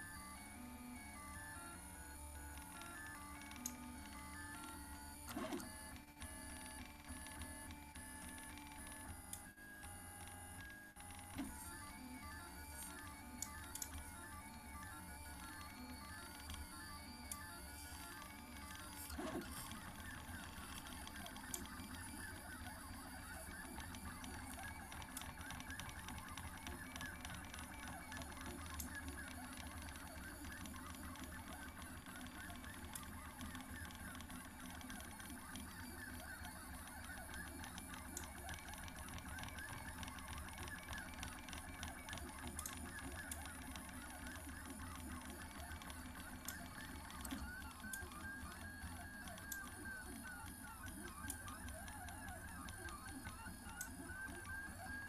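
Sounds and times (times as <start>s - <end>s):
printer stepper motors whining: 0.0s - 55.0s.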